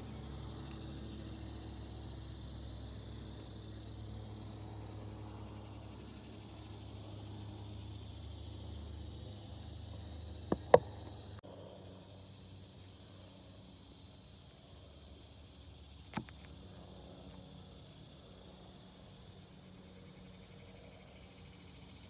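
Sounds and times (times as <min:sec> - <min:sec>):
faint outdoor background noise: 0:00.0 - 0:22.0.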